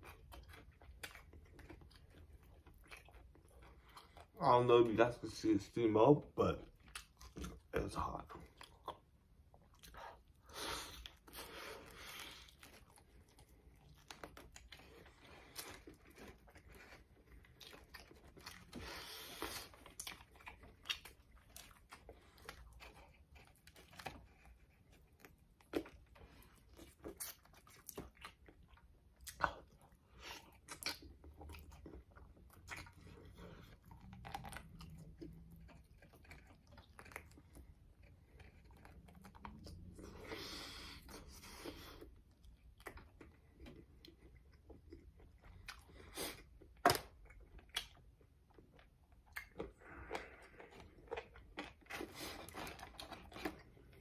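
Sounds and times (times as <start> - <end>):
biting and chewing chicken: 0.0 - 5.5, 6.6 - 54.0.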